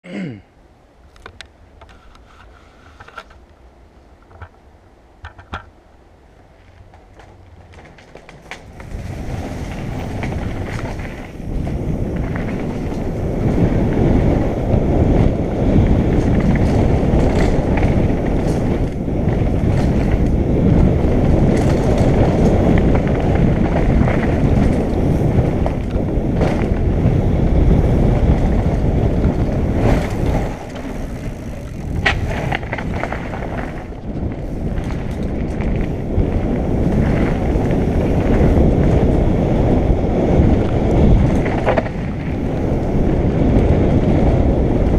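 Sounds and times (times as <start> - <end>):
bike tyres rattling over ground: 6.4 - 44.9
wind on microphone: 8.6 - 44.9.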